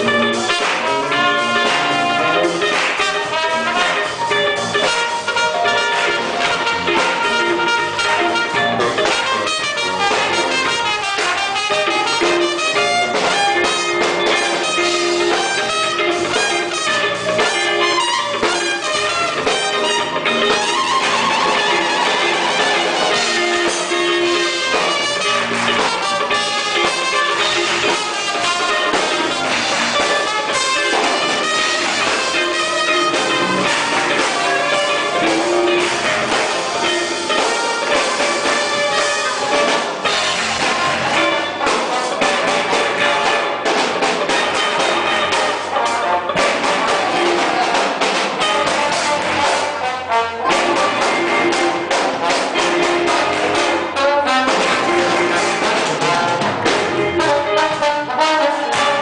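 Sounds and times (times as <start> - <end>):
orchestra playing: 0.0 - 59.0
trumpets and trombones: 0.0 - 59.0.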